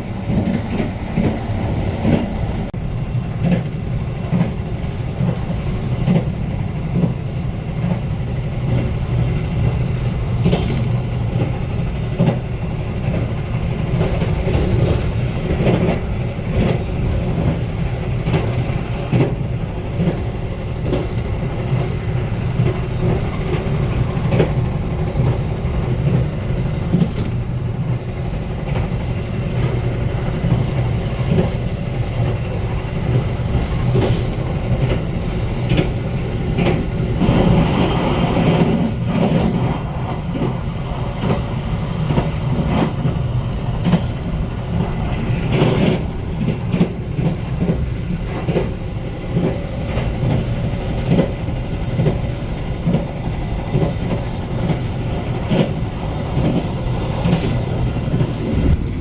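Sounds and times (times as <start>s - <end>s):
train rumble: 0.0s - 59.0s
wheels clicking on track: 0.0s - 59.0s.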